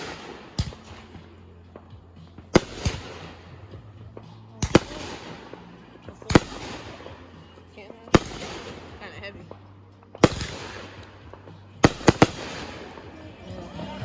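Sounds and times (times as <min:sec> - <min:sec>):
firework bangs: 0:00.0 - 0:13.5
firework crackle: 0:00.0 - 0:13.7.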